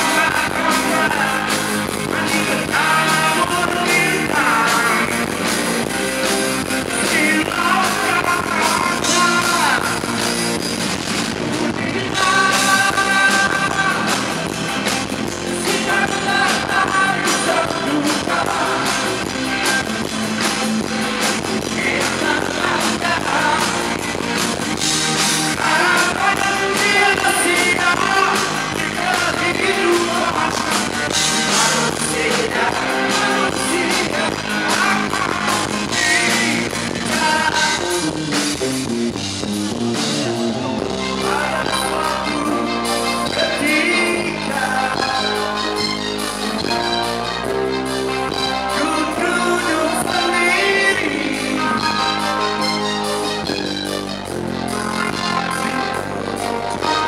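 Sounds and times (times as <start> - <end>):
man singing: 0.0 - 10.6, 11.3 - 20.0, 21.4 - 38.4, 39.9 - 57.0
rock band playing live: 0.0 - 57.0.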